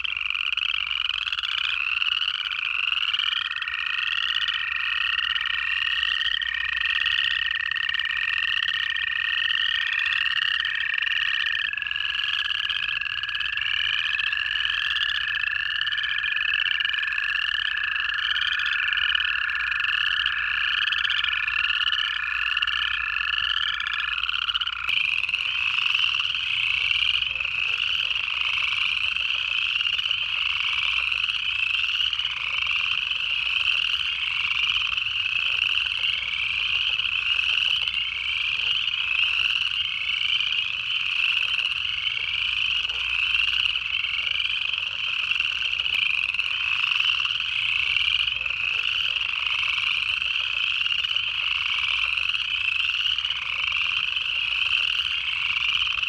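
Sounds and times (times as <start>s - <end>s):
frogs trilling in chorus: 0.0s - 56.0s.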